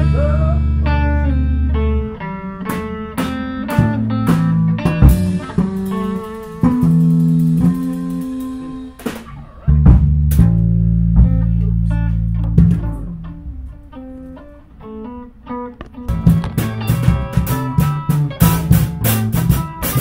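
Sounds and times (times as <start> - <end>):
bass guitar: 0.0 - 20.0
drums: 0.0 - 20.0
electric guitar: 0.0 - 20.0.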